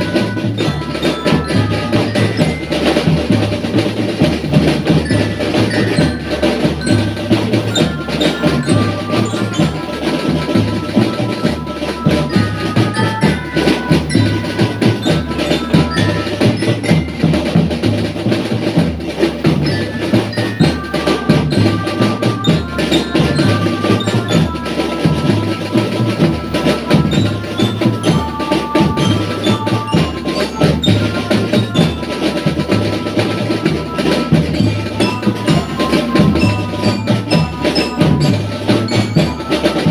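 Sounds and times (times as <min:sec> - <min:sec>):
bell lyra melody: 0:00.0 - 0:39.9
marching drums: 0:00.0 - 0:39.9.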